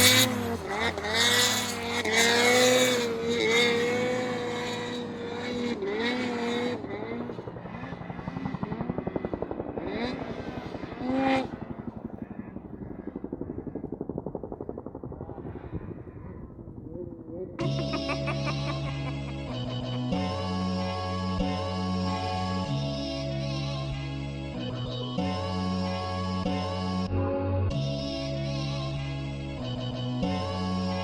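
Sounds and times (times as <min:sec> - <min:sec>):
snowmobile engine running: 0:00.0 - 0:31.0.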